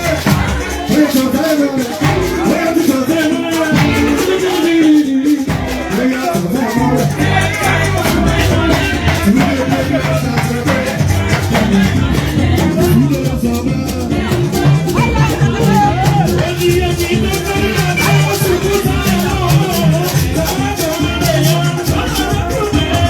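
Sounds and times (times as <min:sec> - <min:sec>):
person singing: 0:00.0 - 0:23.0
shakers: 0:00.0 - 0:23.0
steady percussion beat: 0:00.0 - 0:23.0
bass line: 0:02.0 - 0:04.8, 0:05.5 - 0:23.0.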